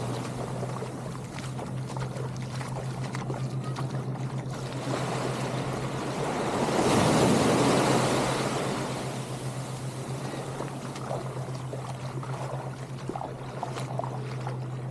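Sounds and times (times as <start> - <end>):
small waves washing up a beach: 0.0 - 14.9
steady low hum: 0.0 - 14.9.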